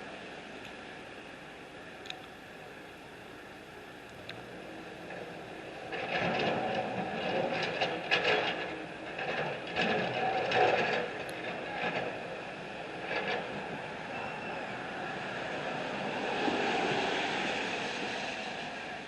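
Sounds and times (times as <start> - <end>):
machinery rumble: 0.0 - 19.0.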